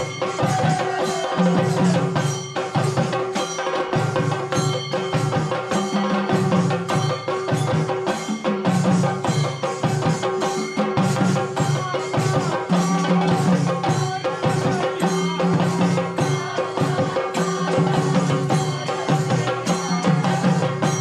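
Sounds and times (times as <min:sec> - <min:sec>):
drums beaten in fast rhythm: 0:00.0 - 0:21.0.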